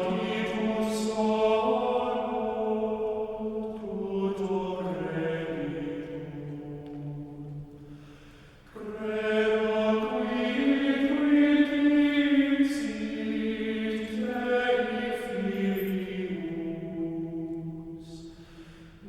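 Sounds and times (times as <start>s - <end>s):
voices singing plainchant: 0.0s - 8.0s, 8.8s - 19.0s.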